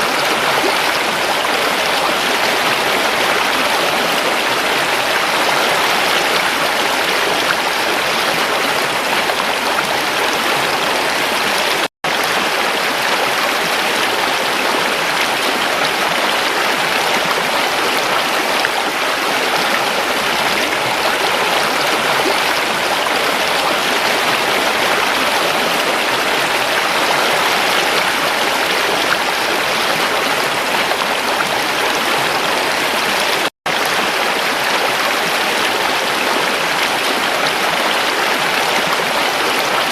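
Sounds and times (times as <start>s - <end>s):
creek water over rocks: 0.0s - 39.9s.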